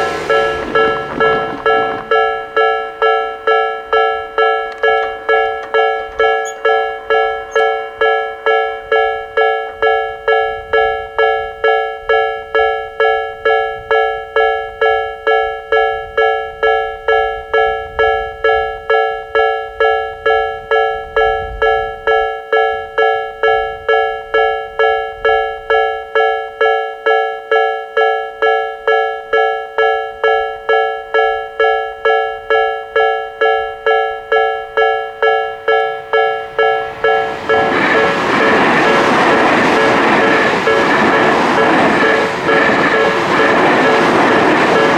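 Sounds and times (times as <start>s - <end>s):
level-crossing chime alarms: 0.0s - 18.2s, 24.0s - 44.9s.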